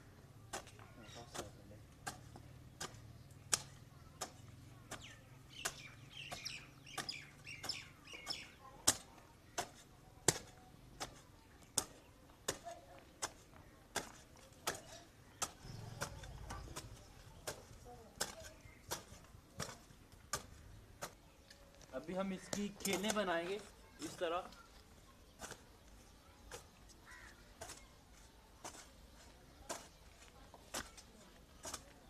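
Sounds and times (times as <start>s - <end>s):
hoe striking dry soil: 0.4s - 21.2s, 22.1s - 32.0s.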